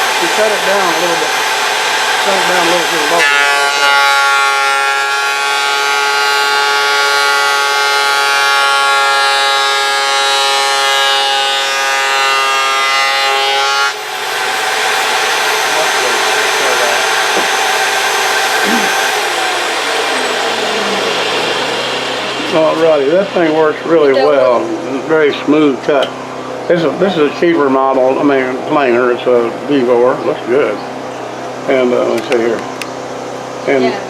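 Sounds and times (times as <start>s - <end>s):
electric wood planer cutting wood: 0.0s - 34.0s.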